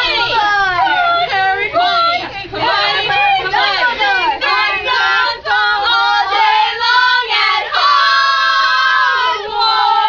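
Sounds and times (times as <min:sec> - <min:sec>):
girls singing together: 0:00.0 - 0:10.0.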